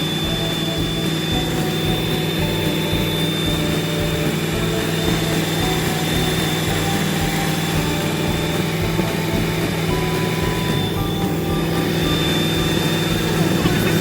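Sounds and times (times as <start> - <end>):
engine running: 0.0 - 14.0
thin high whine: 0.0 - 14.0.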